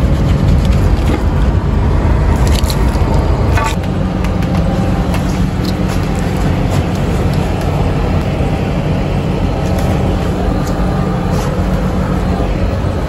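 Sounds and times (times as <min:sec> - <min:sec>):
machinery drone: 0:00.0 - 0:13.0.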